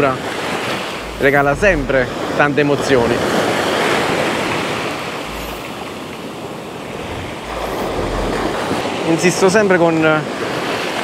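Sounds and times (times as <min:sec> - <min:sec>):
sea waves breaking on beach: 0:00.0 - 0:11.0.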